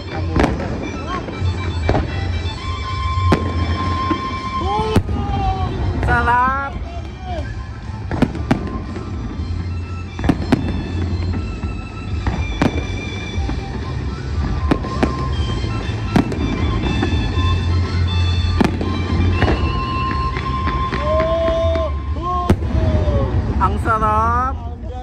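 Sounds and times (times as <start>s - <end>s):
firework bangs: 0.0s - 24.6s.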